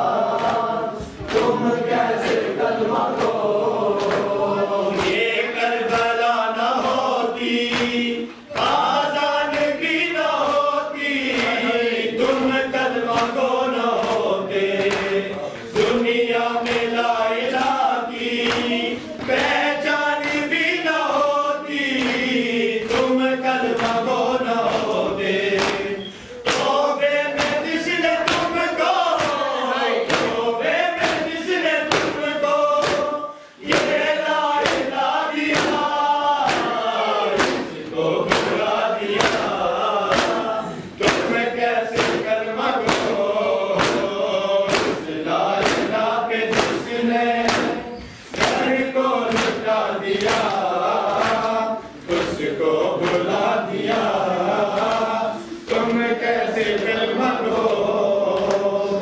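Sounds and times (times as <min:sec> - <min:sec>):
palms slapping on chests: 0:00.0 - 0:58.8
men chanting together: 0:00.0 - 0:59.0.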